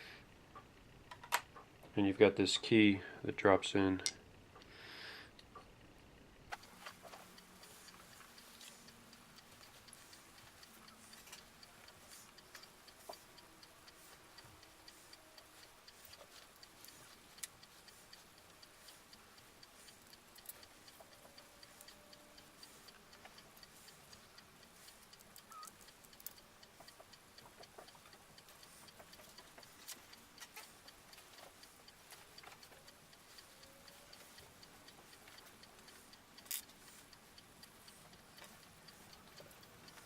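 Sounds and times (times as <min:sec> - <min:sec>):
clock-like ticking: 0:06.5 - 0:40.0.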